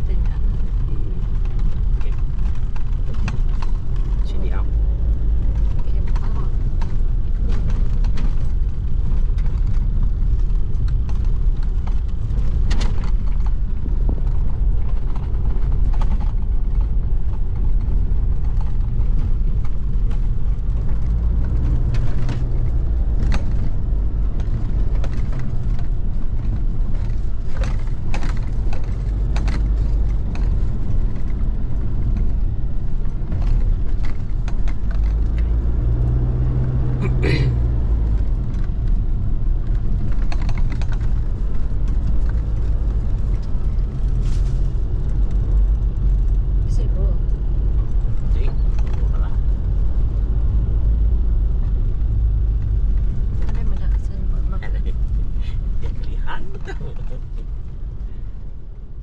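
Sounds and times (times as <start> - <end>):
vehicle engine and road rumble: 0.0 - 59.0.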